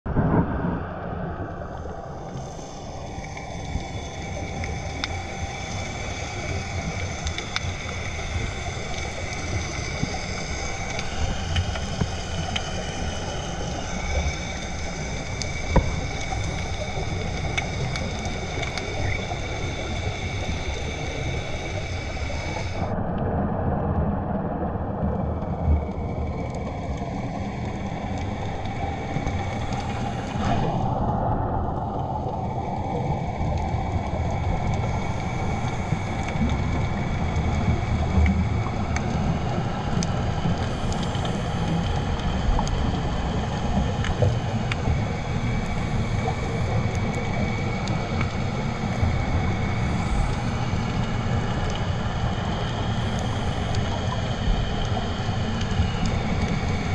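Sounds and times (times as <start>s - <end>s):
high-pitched whine: 0.1s - 23.4s, 24.7s - 56.9s
underwater churning rumble: 0.1s - 56.9s
faint clicks: 1.7s - 22.8s, 32.3s - 56.9s.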